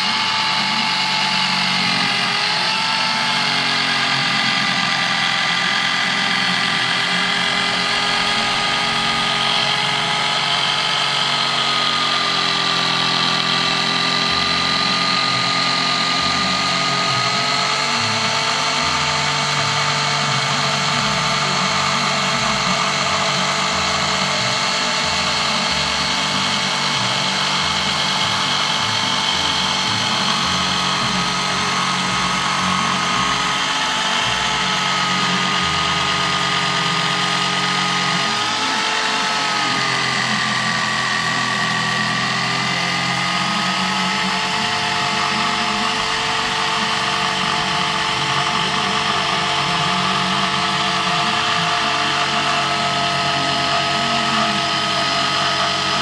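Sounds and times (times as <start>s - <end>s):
jigsaw cutting timber: 0.0s - 56.0s.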